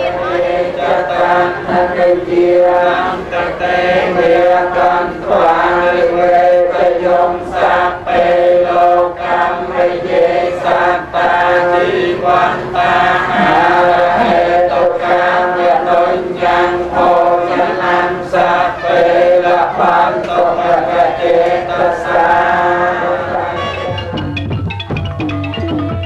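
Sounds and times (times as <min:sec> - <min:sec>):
group chanting in unison: 0:00.0 - 0:24.2.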